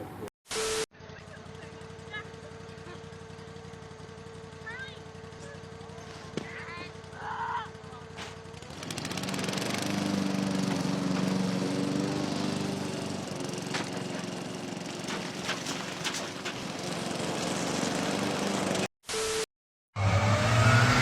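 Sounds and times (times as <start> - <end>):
engine running: 1.0 - 18.9, 20.0 - 21.0.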